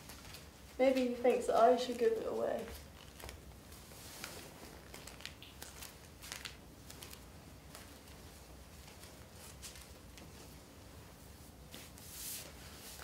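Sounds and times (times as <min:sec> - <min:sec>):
jumper rustling: 0:00.0 - 0:13.0
low room hum: 0:00.0 - 0:13.0.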